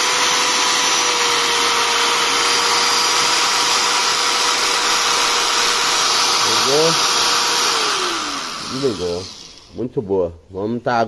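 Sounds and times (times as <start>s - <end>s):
angle grinder motor whirring: 0.0s - 9.8s.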